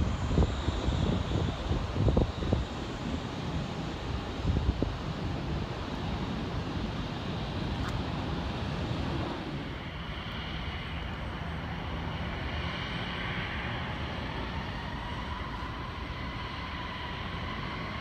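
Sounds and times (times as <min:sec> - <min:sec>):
distant jet engines rumbling: 0:00.0 - 0:18.0
high engine whine: 0:00.0 - 0:18.0
wind buffeting microphone: 0:00.0 - 0:18.0.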